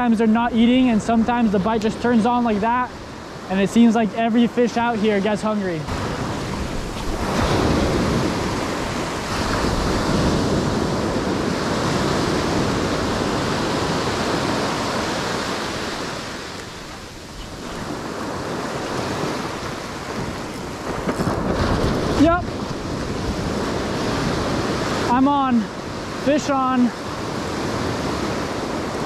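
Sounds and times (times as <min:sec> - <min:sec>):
ocean surf breaking on sand: 0:00.0 - 0:29.0.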